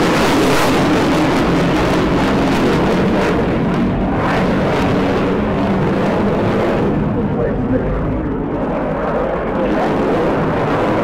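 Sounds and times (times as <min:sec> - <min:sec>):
fighter jet flying overhead: 0:00.0 - 0:11.0.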